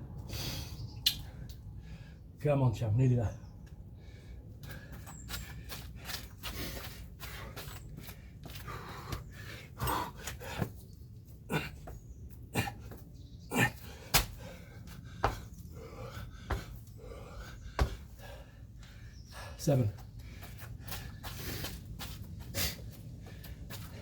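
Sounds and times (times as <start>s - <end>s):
man panting and gasping: 3.9s - 24.0s.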